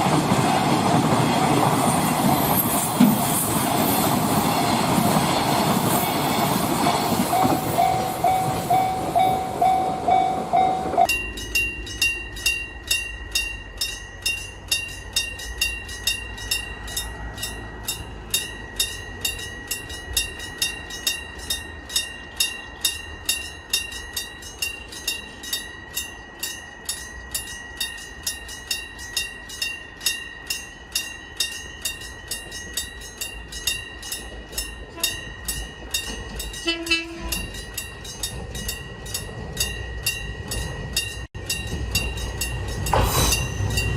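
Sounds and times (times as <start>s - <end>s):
crossing warning bell ringing: 0.0s - 43.9s
train passing: 0.0s - 43.9s
crossing alarm pulsing: 5.9s - 43.9s.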